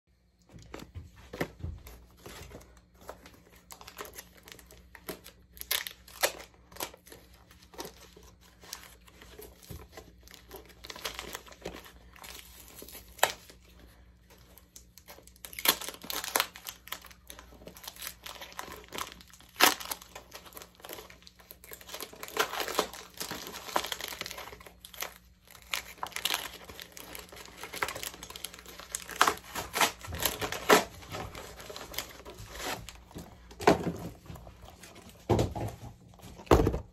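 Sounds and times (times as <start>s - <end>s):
paper crinkling: 0.4s - 36.7s.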